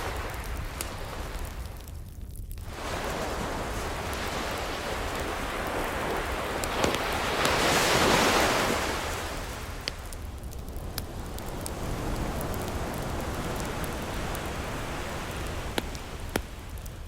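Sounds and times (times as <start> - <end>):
fireplace crackles: 0.0 - 17.0
ocean wave washing up: 2.7 - 17.0.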